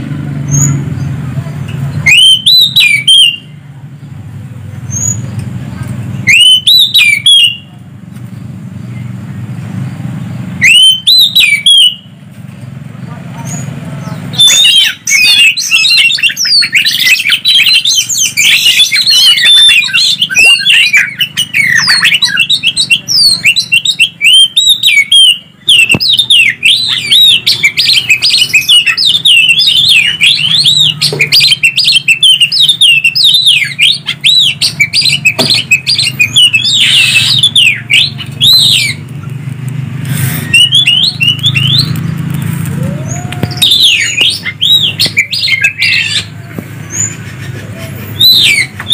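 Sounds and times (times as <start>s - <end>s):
birds chirping and whistling: 0.0s - 48.9s.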